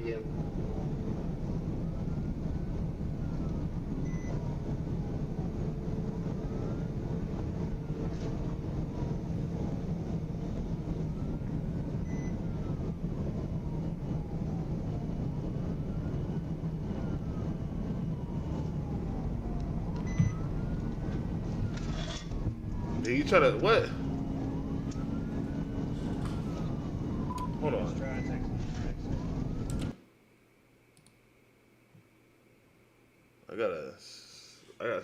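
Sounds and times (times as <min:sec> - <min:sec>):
police siren wailing: 0:00.0 - 0:30.0
vehicle engine and road rumble: 0:00.0 - 0:30.0.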